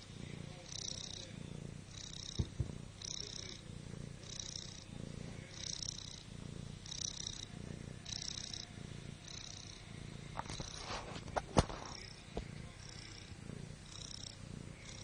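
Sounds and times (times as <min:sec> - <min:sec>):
cat snoring: 0:00.0 - 0:15.0.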